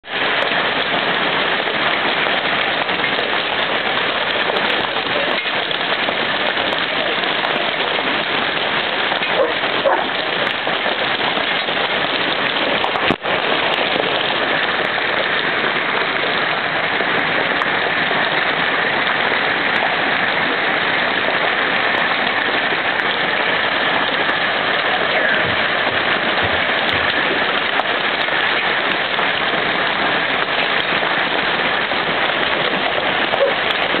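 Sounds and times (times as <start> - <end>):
hail and rain pelting a deck: 0.0 - 34.0.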